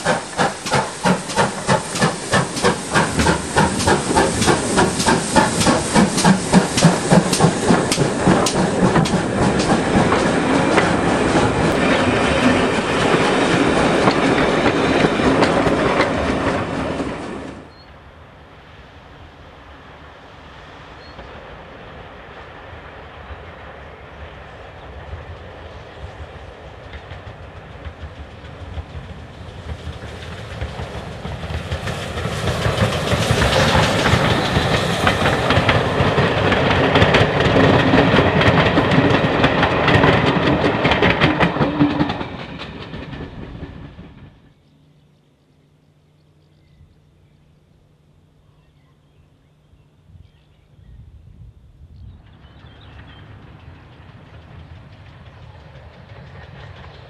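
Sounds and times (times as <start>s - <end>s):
steam locomotive passing: 0.0s - 45.8s, 51.0s - 57.0s.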